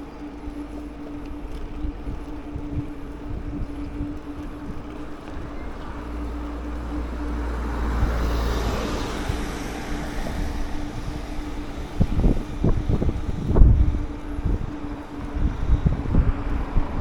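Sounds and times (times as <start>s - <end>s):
road noise: 0.0s - 17.0s
scooter engine hum: 0.0s - 17.0s
wind buffeting microphone: 0.0s - 17.0s.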